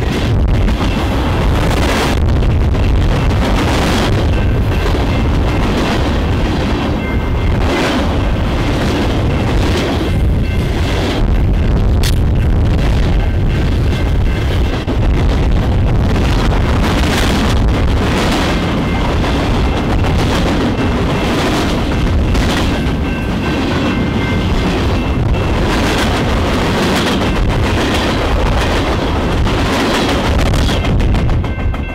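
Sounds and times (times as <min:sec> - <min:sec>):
freight train rumble: 0:00.0 - 0:31.9
steel wheels clattering on rails: 0:00.0 - 0:31.9.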